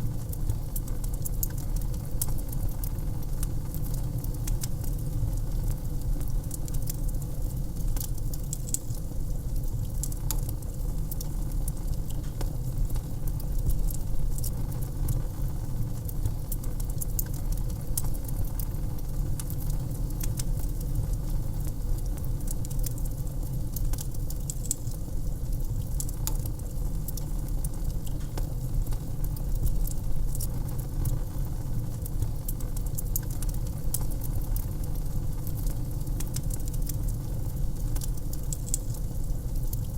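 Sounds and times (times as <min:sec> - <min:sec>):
low rumble of burning fire: 0:00.0 - 0:39.9
wood fire crackling: 0:00.0 - 0:39.9.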